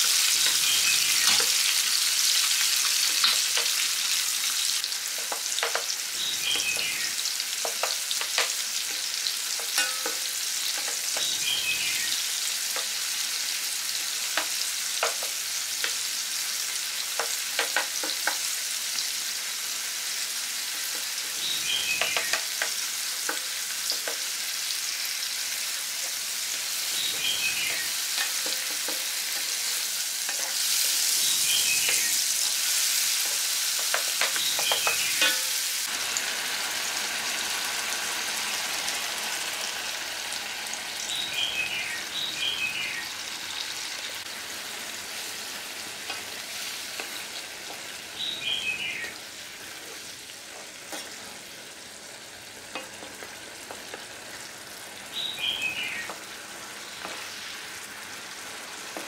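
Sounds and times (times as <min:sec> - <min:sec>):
food sizzling in hot oil: 0:00.0 - 0:59.0.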